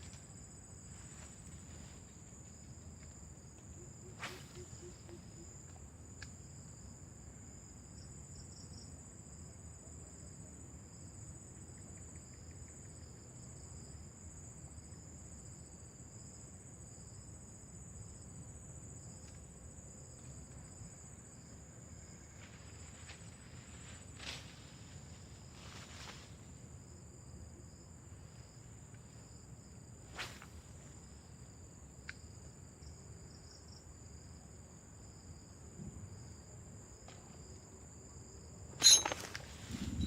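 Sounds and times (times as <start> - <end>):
faint outdoor background noise: 0.0 - 40.0
insects buzzing: 0.0 - 40.0.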